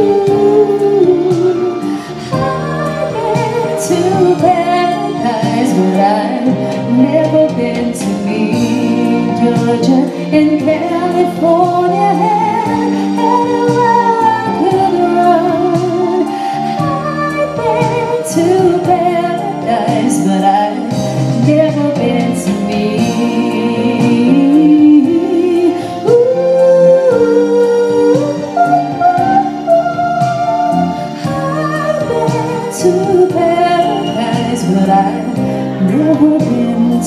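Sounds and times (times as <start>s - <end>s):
guitar and backing music: 0.0s - 37.0s
woman singing into microphone: 0.0s - 37.0s.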